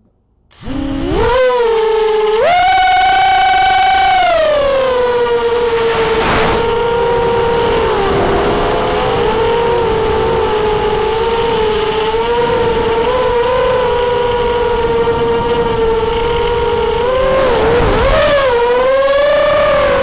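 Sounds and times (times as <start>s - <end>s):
drone motors whining: 0.5s - 20.0s
rush of noise: 0.6s - 20.0s.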